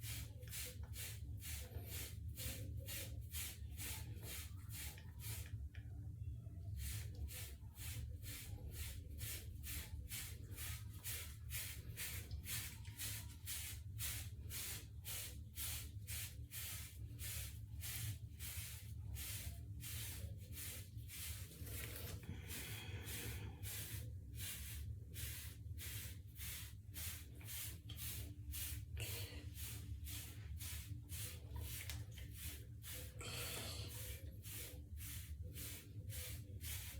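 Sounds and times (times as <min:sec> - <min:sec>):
hair brush swishing through hair: 0:06.8 - 0:36.9.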